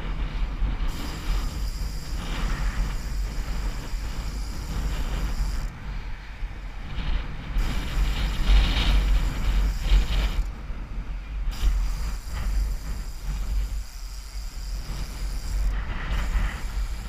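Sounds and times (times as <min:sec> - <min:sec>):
bicycle freewheel clicking: 0:00.0 - 0:05.9, 0:07.0 - 0:17.0
wind rumble on microphone: 0:00.0 - 0:17.0.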